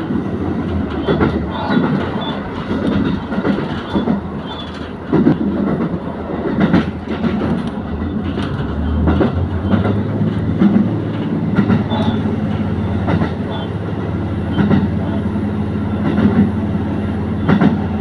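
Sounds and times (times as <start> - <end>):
wheels clicking over rail joints: 0.0 - 15.3, 15.9 - 16.6, 17.3 - 18.0
diesel train engine hum: 0.0 - 18.0.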